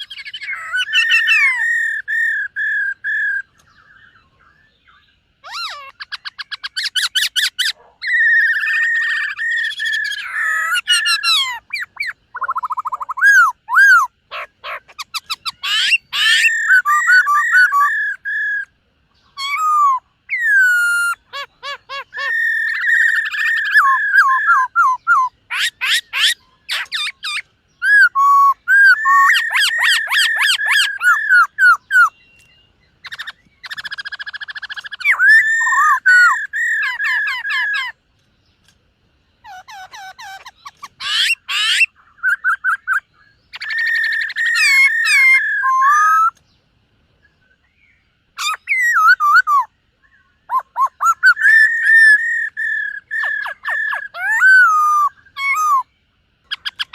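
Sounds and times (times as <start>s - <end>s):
bird singing whistled phrases: 0.0s - 38.0s, 39.4s - 46.4s, 47.7s - 55.9s.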